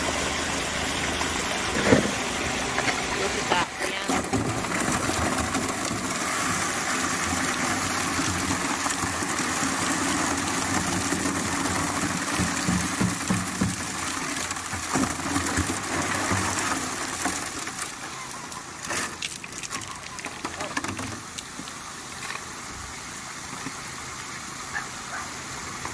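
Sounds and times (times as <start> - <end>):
rocks tumbling in water: 0.0 - 22.7
petrol water pump running: 0.0 - 25.9
water gushing through sluice: 0.0 - 25.9.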